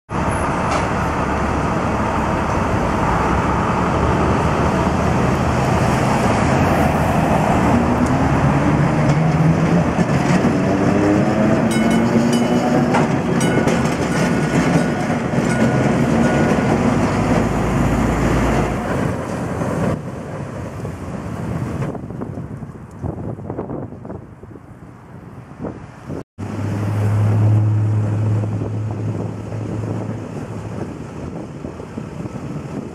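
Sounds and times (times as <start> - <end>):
streetcar motors whining: 0.1 - 22.5, 26.4 - 32.9
street traffic: 0.1 - 32.9
wheels rumbling on rails: 0.1 - 32.9.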